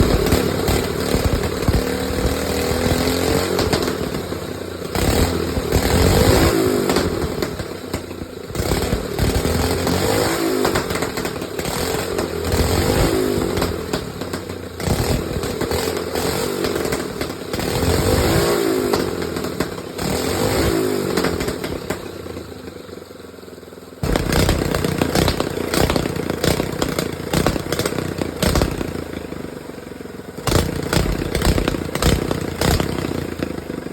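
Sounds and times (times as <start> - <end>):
go-kart engine revving: 0.0 - 33.9.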